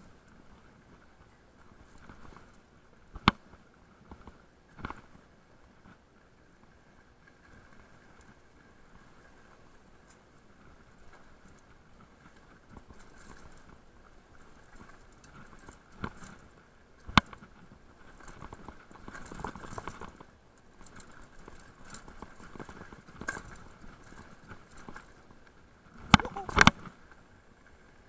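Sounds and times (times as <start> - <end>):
wheels knocking on rocks: 0.2 - 27.8
bike tyres crunching over stones: 0.7 - 27.2.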